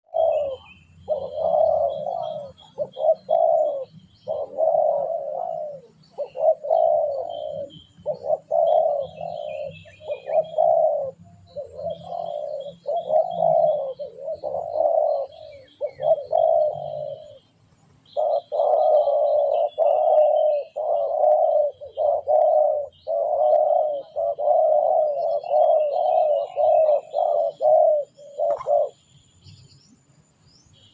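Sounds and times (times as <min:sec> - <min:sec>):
dove cooing: 0:00.0 - 0:29.1
small birds chirping: 0:00.0 - 0:30.9.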